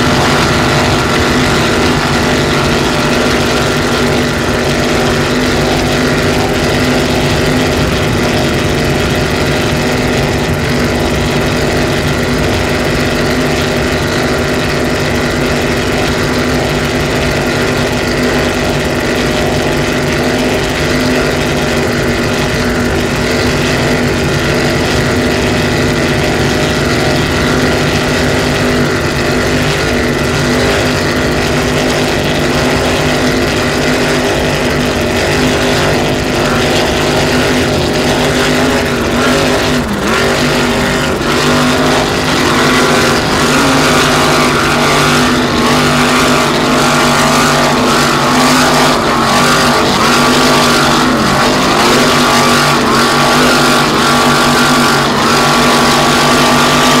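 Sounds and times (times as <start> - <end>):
engines droning: 0.0 - 57.0.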